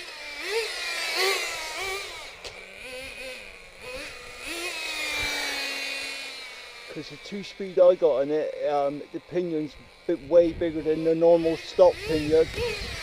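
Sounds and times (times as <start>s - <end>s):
rc car engine revving: 0.0s - 13.0s.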